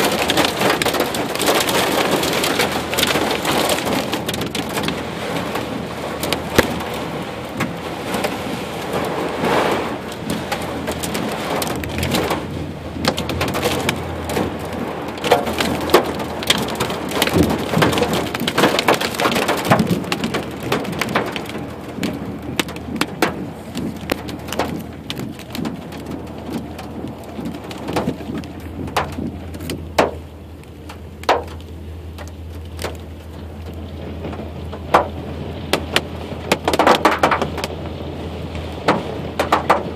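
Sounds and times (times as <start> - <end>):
hail pounding on truck roof: 0.0 - 39.9
rush of rain: 0.0 - 39.9.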